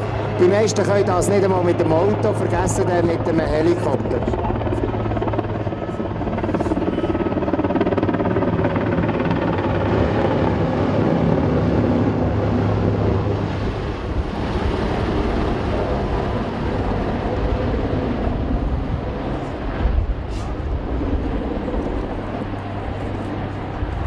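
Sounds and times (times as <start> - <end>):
helicopter flying low overhead: 0.0 - 24.0.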